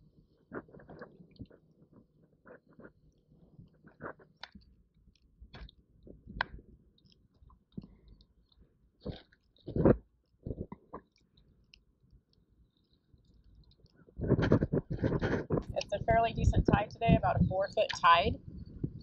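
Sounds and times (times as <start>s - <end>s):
fishing tackle clicks and rustles: 0.5s - 16.0s.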